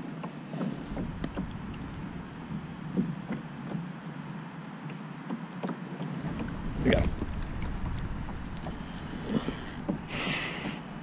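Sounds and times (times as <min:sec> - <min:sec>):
waves slapping against hull: 0:00.0 - 0:04.1, 0:05.3 - 0:11.0
water wash: 0:00.2 - 0:04.0, 0:06.0 - 0:11.0.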